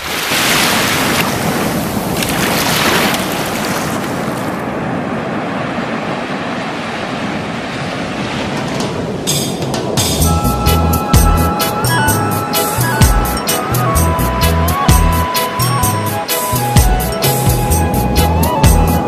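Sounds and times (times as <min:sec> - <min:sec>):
ocean waves breaking: 0:00.0 - 0:19.0
wind: 0:00.0 - 0:19.0.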